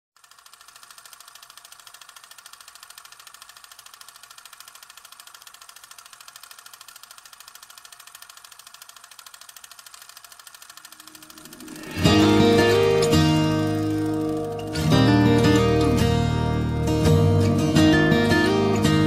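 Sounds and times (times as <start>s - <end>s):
small engine running with clatter: 0.2s - 19.0s.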